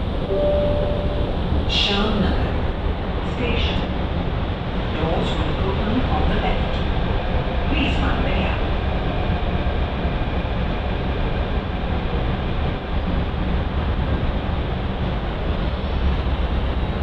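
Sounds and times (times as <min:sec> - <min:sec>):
train running rumble inside coach: 0:00.0 - 0:17.0.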